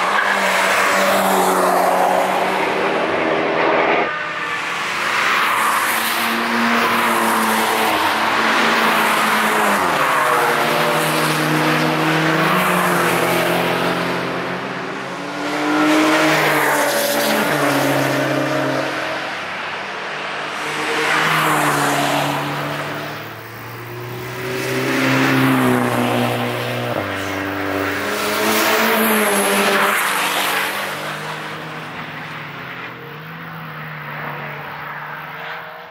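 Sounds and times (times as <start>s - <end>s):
race cars passing at speed: 0.0s - 35.9s.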